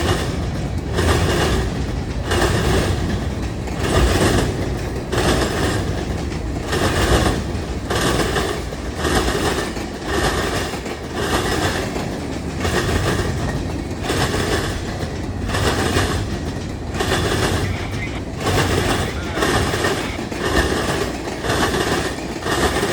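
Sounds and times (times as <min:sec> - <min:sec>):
train wheels clacking on rails: 0:00.0 - 0:22.9.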